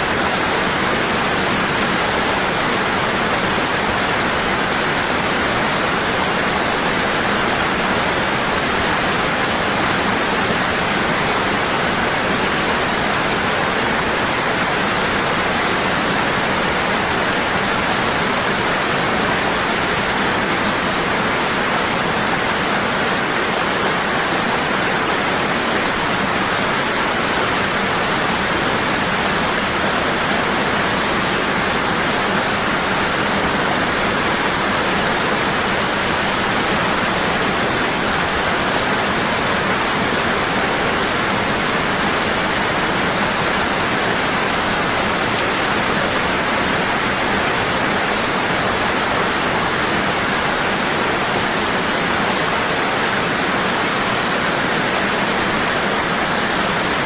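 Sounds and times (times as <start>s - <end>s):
waterfall pouring heavily: 0.0s - 57.0s.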